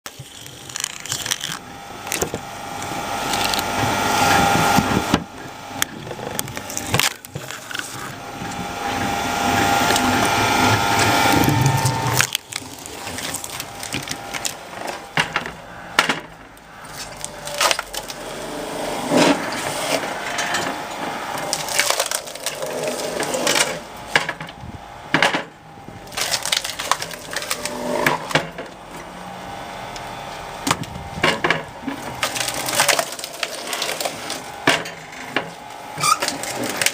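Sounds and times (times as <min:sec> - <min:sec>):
log splitter boring into log: 0:00.1 - 0:36.9
wood creaking and cracking: 0:00.1 - 0:36.9.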